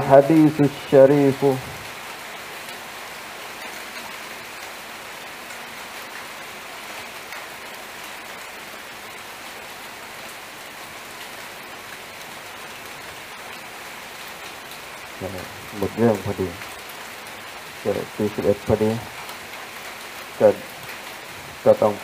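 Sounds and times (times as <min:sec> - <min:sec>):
raindrops ticking: 0:00.0 - 0:22.0
steady rain hiss: 0:00.0 - 0:22.0.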